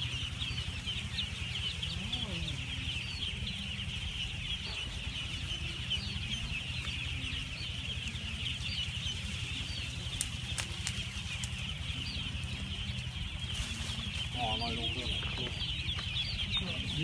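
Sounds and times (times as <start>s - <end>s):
ducklings peeping: 0.0s - 17.0s
steady low hum: 0.0s - 17.0s.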